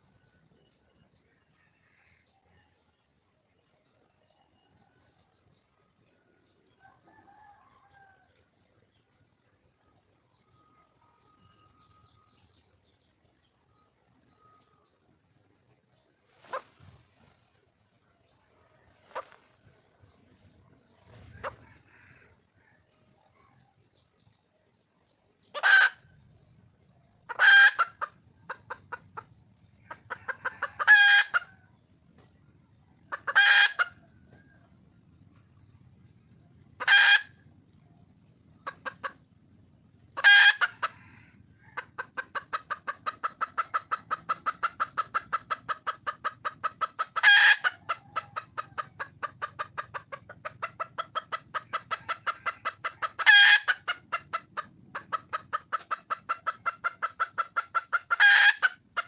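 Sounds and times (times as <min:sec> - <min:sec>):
hen clucking: 0:10.0 - 0:24.3, 0:25.0 - 0:37.6, 0:38.2 - 0:59.0.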